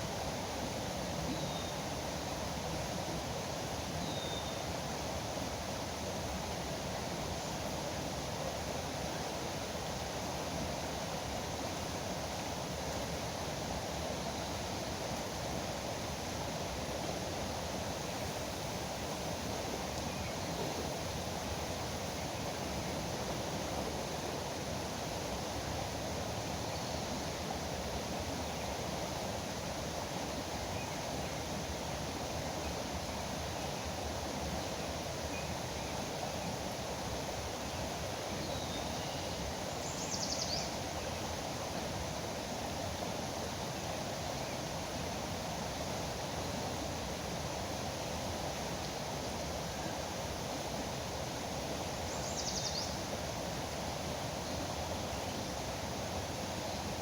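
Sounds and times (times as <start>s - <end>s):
flowing river water: 0.0s - 39.9s, 40.7s - 52.3s, 52.9s - 57.0s.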